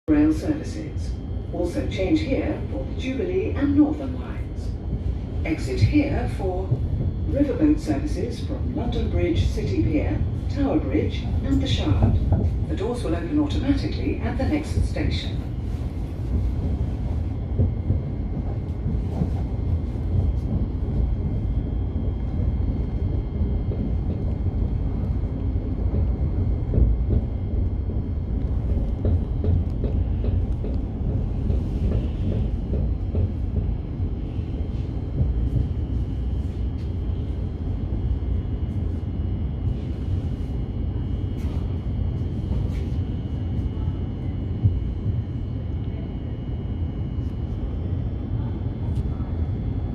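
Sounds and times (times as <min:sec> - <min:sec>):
train carriage rumbling: 0:00.0 - 0:49.9.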